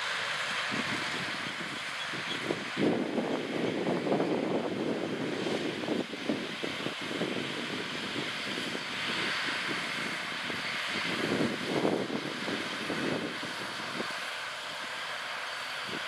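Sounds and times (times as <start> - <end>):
diesel engines droning: 0.0 - 16.0.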